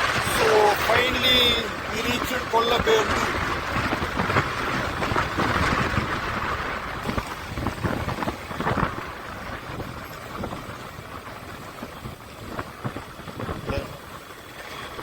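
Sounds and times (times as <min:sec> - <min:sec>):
engine and road rumble: 0:00.0 - 0:15.0
wind rushing over microphone: 0:00.0 - 0:15.0.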